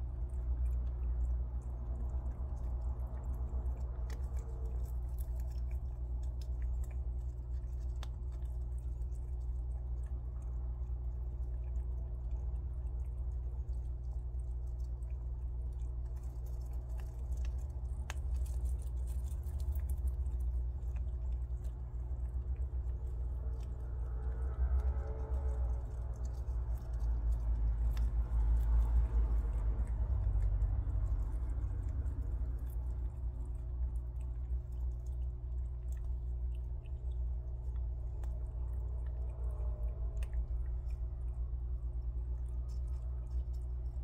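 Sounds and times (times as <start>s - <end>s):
animals chewing peanut shells: 0.0s - 44.0s
low steady hum: 0.0s - 44.0s.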